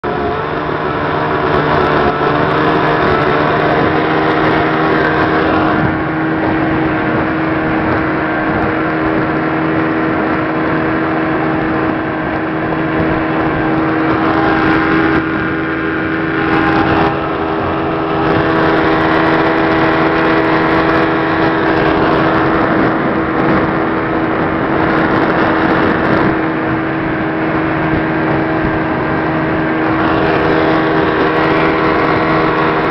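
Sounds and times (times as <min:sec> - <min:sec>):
outboard motor running: 0:00.0 - 0:32.9.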